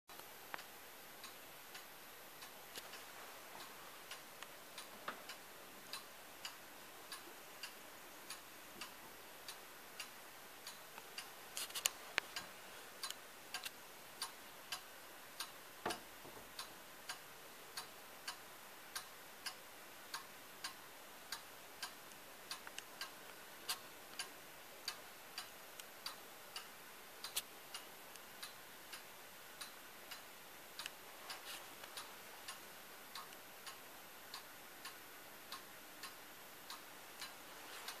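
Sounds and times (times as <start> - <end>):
wall clock ticking: 0.1 - 38.0.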